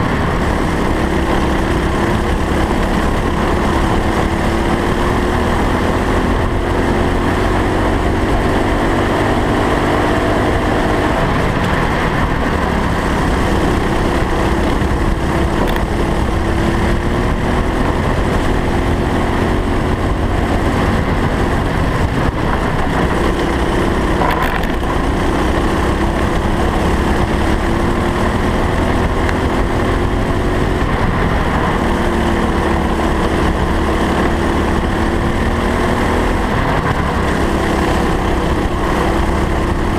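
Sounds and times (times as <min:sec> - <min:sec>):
go-kart engine running hard: 0:00.0 - 0:39.9
road rumble: 0:00.0 - 0:39.9
wind noise: 0:00.0 - 0:39.9.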